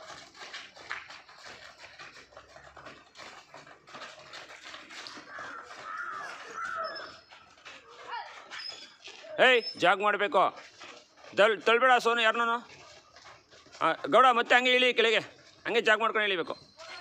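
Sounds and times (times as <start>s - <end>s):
footsteps on concrete steps: 0.0s - 17.0s.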